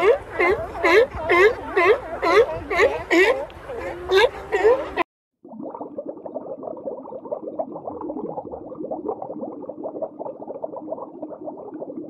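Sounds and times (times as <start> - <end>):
aquarium water bubbling: 0.0 - 12.0.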